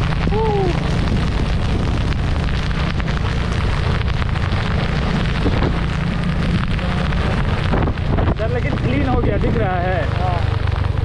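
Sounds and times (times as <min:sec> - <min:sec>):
motorcycle engine running: 0:00.0 - 0:11.0
rain: 0:00.0 - 0:11.0
tyres hissing on wet road: 0:00.0 - 0:11.0
wind on microphone: 0:00.0 - 0:11.0.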